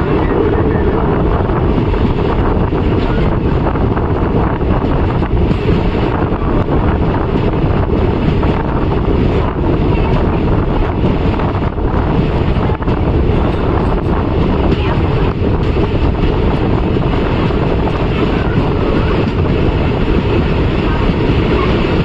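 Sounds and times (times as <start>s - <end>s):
train rumbling on track: 0.0s - 22.0s
wind on microphone: 0.0s - 22.0s.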